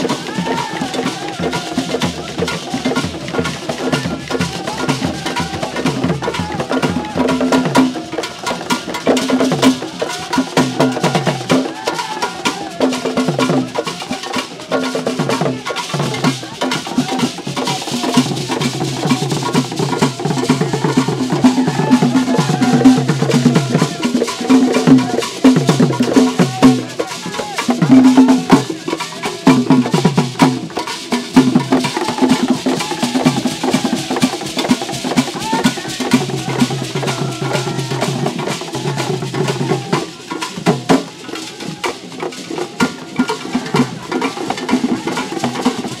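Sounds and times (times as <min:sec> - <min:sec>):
hand drums playing fast rhythm: 0:00.0 - 0:46.0.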